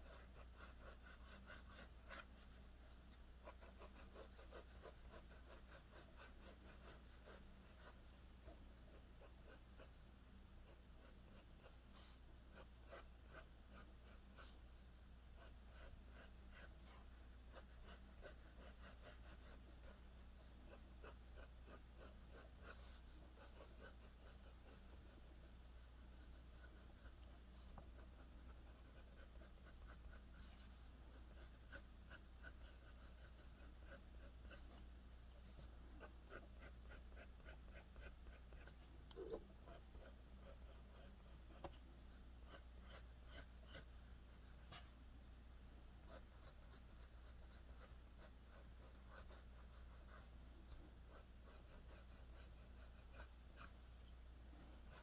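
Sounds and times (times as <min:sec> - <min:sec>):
faint pencil strokes on paper: 0:00.0 - 0:45.0, 0:46.0 - 0:55.0.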